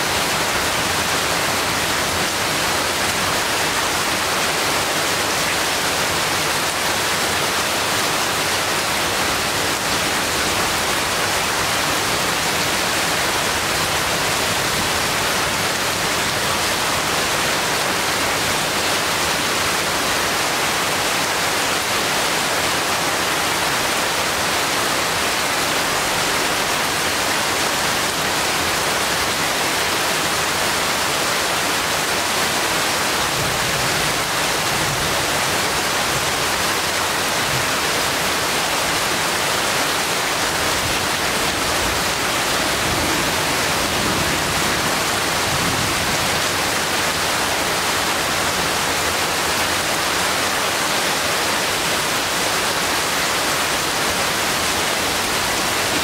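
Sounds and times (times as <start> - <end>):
heavy rain on leaves: 0.0 - 56.0.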